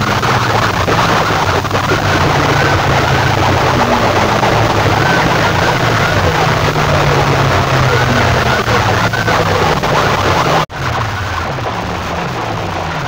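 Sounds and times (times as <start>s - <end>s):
loudspeakers blaring music: 0.0s - 11.5s
low drone: 0.0s - 13.0s
rising and falling wails: 0.0s - 13.0s.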